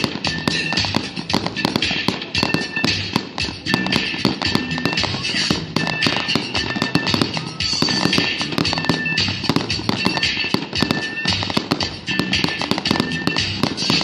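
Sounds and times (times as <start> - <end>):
fireworks popping and crackling: 0.0 - 14.0
music playing: 0.0 - 14.0.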